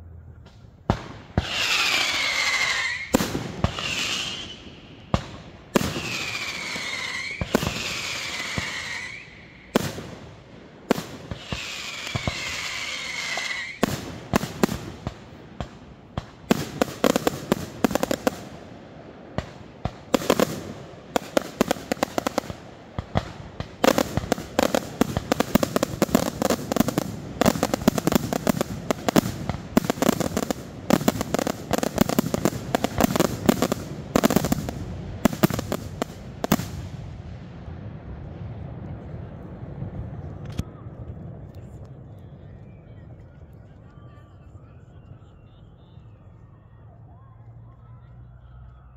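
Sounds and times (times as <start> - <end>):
fireworks bangs and crackling: 0.4 - 43.9
whistling fireworks: 0.4 - 48.9.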